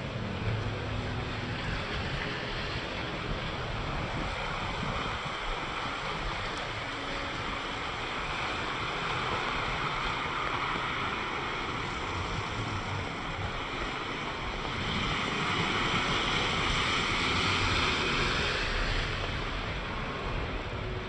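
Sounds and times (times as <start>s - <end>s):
rain and rushing water: 0.0s - 21.0s.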